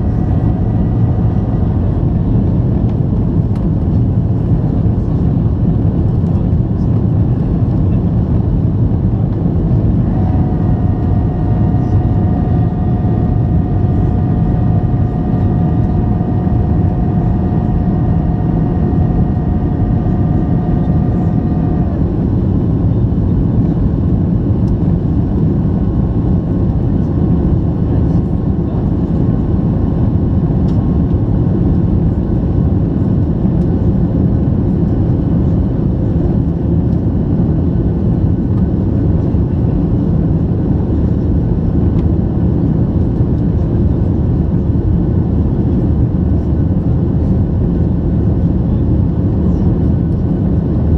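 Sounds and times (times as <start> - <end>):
jet engine rumble: 0.0 - 50.9
steady whine: 0.0 - 50.9.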